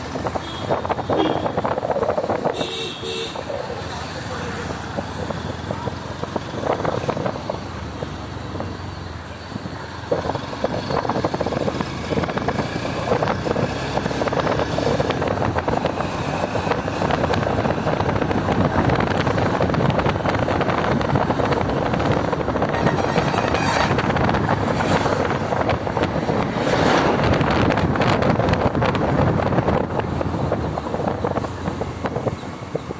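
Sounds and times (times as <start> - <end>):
wind buffeting microphone: 0.0 - 2.7, 3.4 - 8.8, 9.5 - 32.9
motorcycle running: 0.0 - 32.9.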